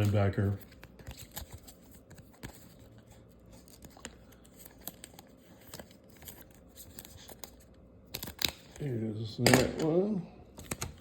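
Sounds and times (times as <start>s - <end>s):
cards rustling: 0.0s - 8.9s.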